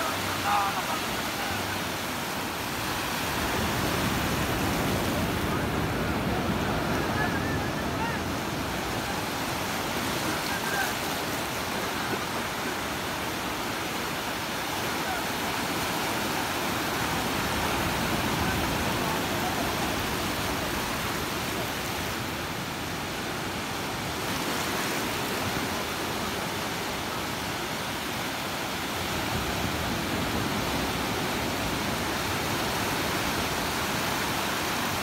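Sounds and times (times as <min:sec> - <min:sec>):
sea surf breaking on beach: 0:00.0 - 0:35.0.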